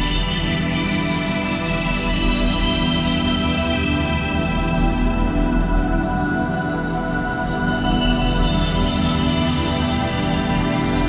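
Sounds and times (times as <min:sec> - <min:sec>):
music with long held tones: 0:00.0 - 0:11.0.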